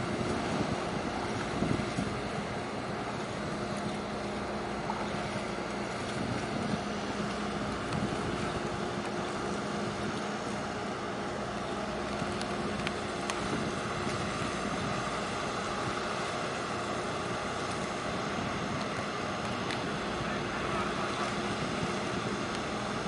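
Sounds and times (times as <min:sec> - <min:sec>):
water noise: 0:00.0 - 0:23.0
wind: 0:00.0 - 0:23.0.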